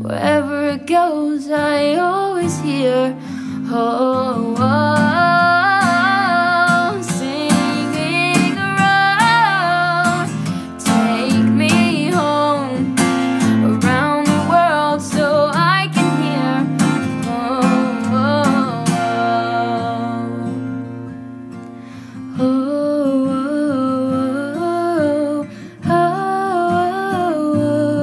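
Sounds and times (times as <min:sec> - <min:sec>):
person singing: 0:00.0 - 0:20.6, 0:22.4 - 0:28.0
acoustic guitar: 0:00.0 - 0:28.0.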